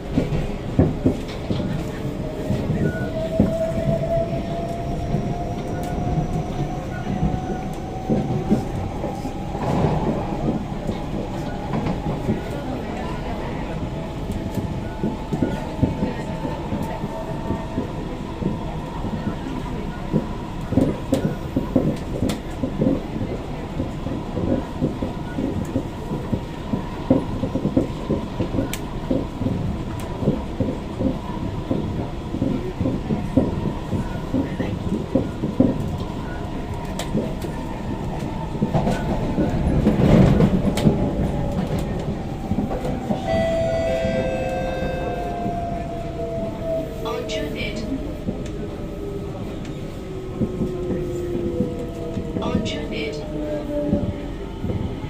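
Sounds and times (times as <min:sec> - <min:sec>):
train bogie rumble: 0:00.0 - 0:55.0.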